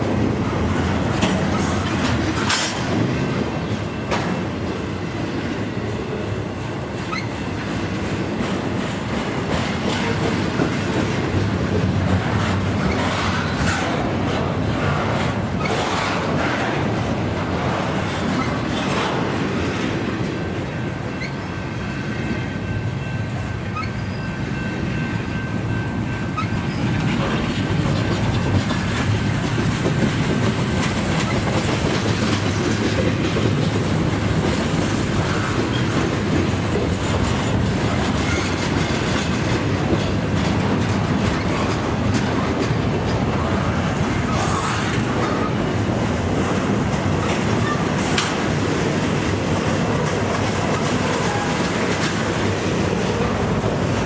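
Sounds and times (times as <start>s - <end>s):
clickety-clack over rail joints: 0.0s - 54.0s
train wheels rumbling on rail: 0.0s - 54.0s.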